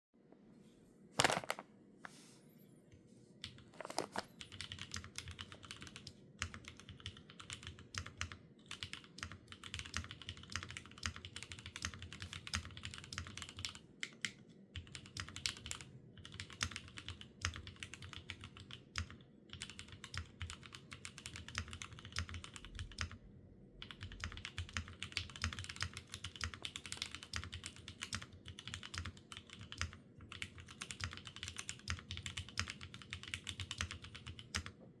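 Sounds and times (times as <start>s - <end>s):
typing on mechanical keyboard: 3.4s - 23.2s, 23.8s - 34.8s.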